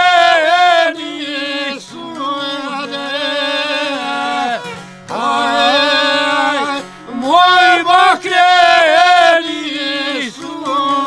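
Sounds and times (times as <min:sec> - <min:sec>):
long-necked lute: 0:00.0 - 0:11.0
two men singing: 0:00.0 - 0:11.0.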